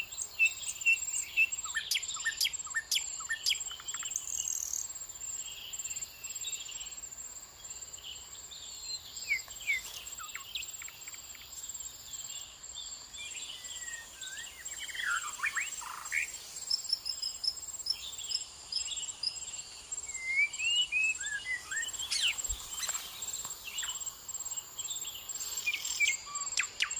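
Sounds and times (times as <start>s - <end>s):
high-pitched insect trill: 0.0s - 26.9s
small birds chirping: 0.0s - 26.9s.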